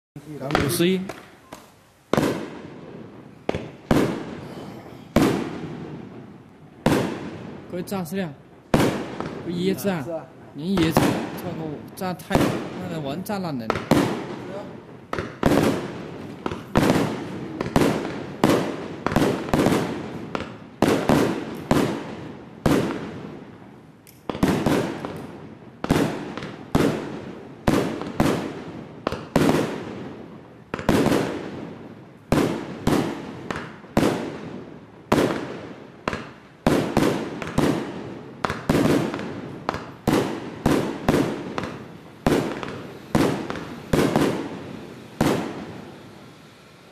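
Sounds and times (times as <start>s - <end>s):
fireworks bangs: 0.2s - 46.9s.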